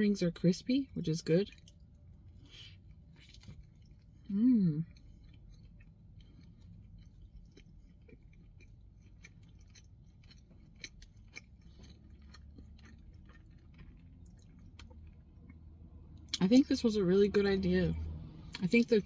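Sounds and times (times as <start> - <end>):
faint chewing crunches: 1.4 - 16.7.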